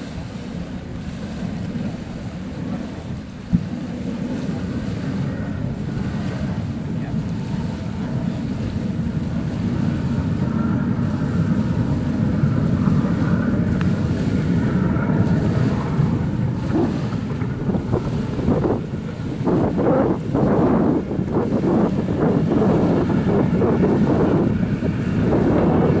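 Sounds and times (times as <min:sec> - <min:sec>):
jetboat engine rumble and whine: 0:00.0 - 0:26.0
wind noise on microphone: 0:00.0 - 0:26.0.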